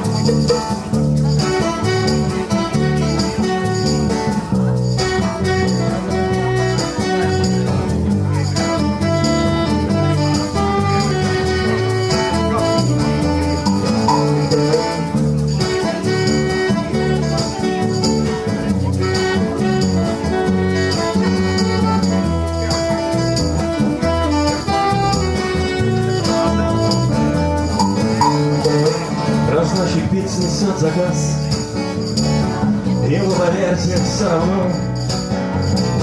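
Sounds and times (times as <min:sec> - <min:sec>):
live band playing: 0:00.0 - 0:36.0.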